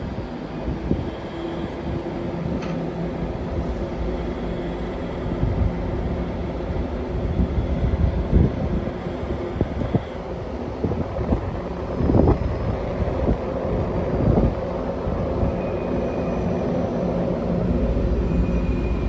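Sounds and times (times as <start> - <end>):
electric locomotive rumbling: 0.0 - 19.0.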